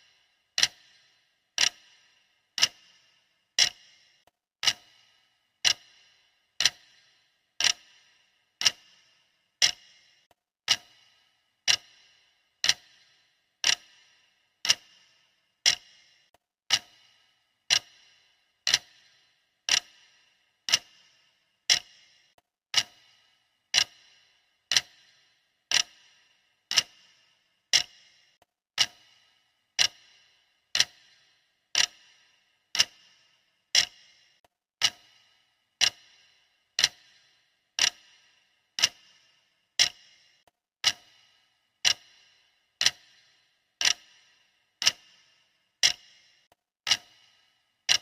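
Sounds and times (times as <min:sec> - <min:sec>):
timer ticking: 0:00.0 - 0:48.0.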